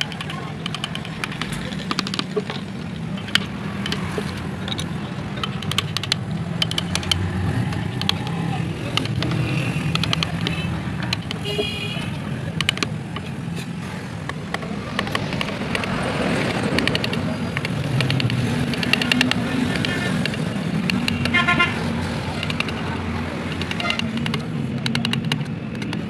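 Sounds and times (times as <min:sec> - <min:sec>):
carving gouge clicking into wood: 0:00.0 - 0:21.3, 0:22.0 - 0:26.0
road traffic: 0:00.0 - 0:26.0.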